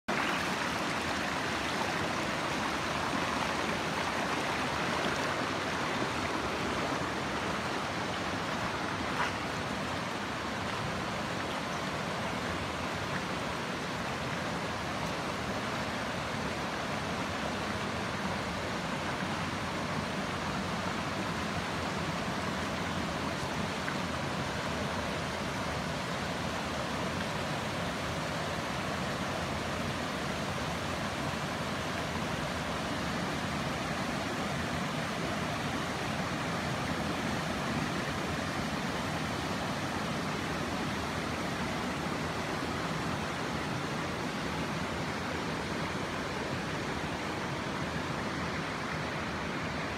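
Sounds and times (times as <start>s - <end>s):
rushing stream water: 0.0s - 49.9s.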